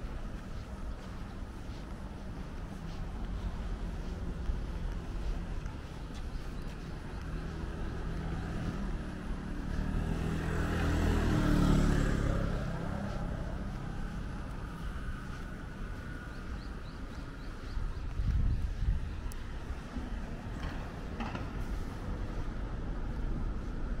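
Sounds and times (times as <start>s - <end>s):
rumble of city traffic: 0.0s - 24.0s
vehicle passing close by: 0.0s - 24.0s.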